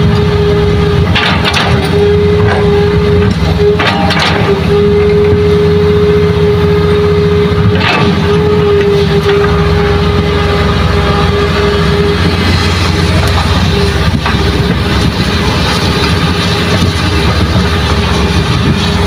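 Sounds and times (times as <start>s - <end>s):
excavator diesel engine: 0.0s - 19.0s
steady whine: 0.0s - 19.0s.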